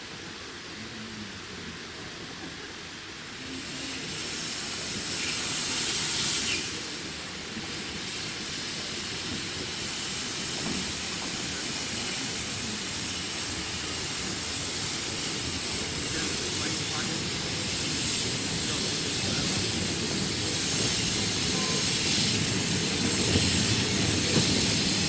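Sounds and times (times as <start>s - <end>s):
steam locomotive hissing steam: 0.0s - 25.0s.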